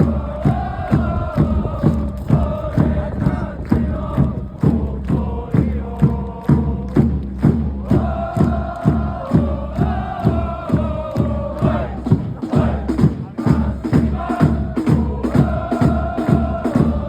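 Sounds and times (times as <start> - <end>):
crowd chanting: 0.0 - 7.0, 7.7 - 17.0
drum beat: 0.0 - 17.0.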